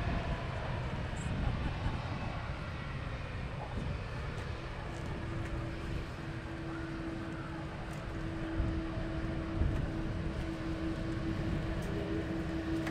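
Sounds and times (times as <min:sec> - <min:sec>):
jet engines rumbling: 0:00.0 - 0:12.9.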